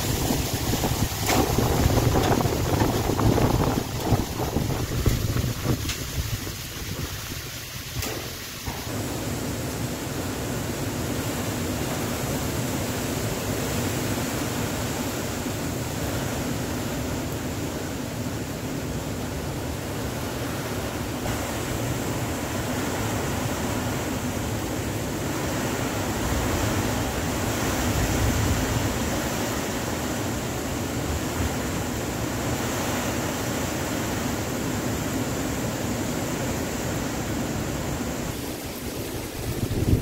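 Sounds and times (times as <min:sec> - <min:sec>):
wind and rain through trees: 0:00.0 - 0:40.0.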